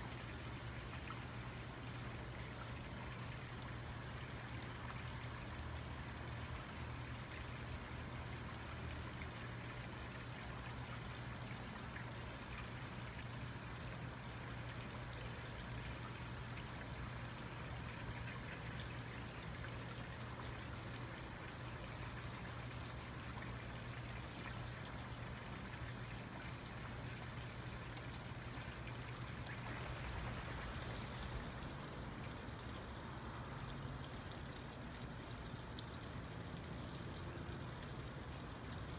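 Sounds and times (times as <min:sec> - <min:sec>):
waterfall trickling over rocks: 0:00.0 - 0:38.9.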